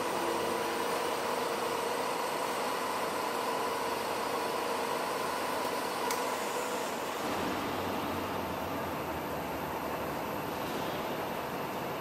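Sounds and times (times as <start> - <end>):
lathe machining with whine: 0.0 - 12.0.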